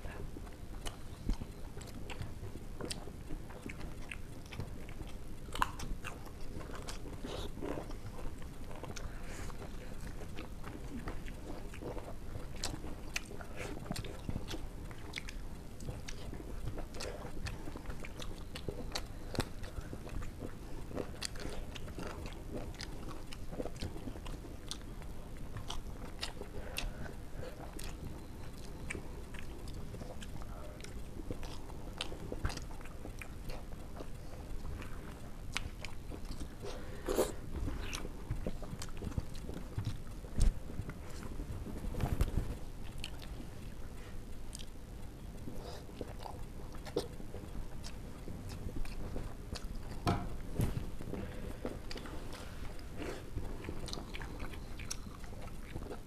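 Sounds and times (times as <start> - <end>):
close-up chewing and mouth smacks: 0.0 - 56.0.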